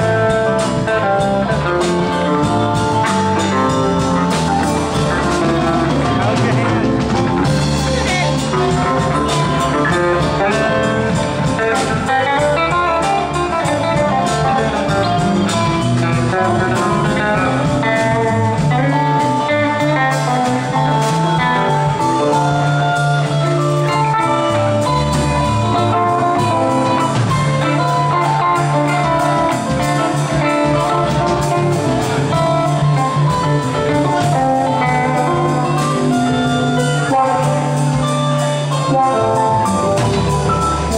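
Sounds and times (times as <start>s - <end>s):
bass guitar: 0.0s - 40.9s
drums: 0.0s - 40.9s
electric guitars: 0.0s - 40.9s.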